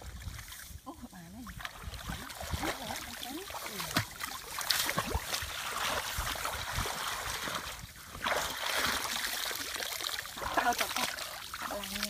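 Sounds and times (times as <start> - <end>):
muddy water splashing: 0.0 - 12.0.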